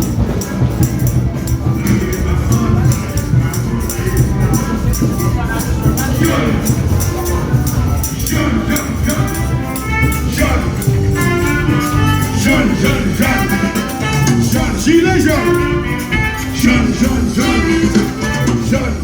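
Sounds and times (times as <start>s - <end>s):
carnival band music: 0.0s - 19.0s.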